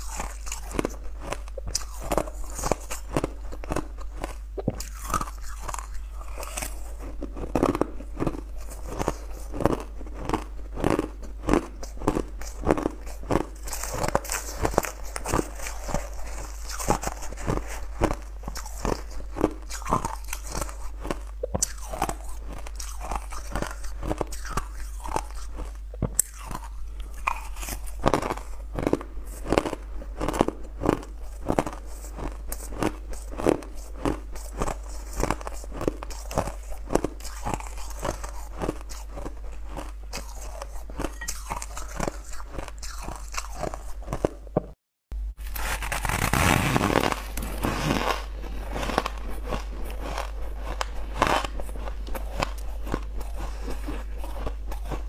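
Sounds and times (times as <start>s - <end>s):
ice crunching between teeth: 0.0s - 44.4s, 45.5s - 55.0s.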